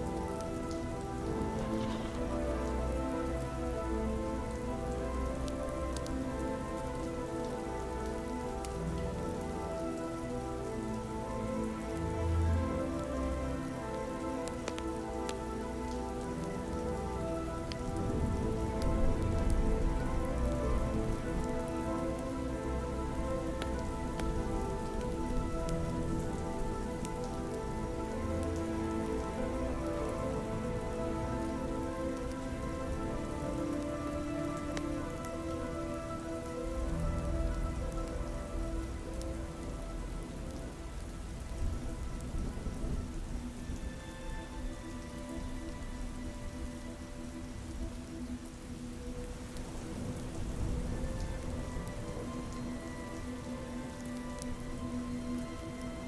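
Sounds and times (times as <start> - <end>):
ambient music with held notes: 0.0 - 56.0
soft rain: 0.0 - 56.0.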